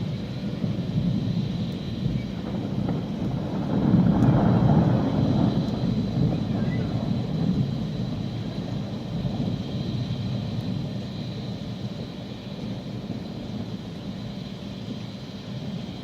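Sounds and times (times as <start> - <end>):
rolling thunder: 0.0 - 15.0.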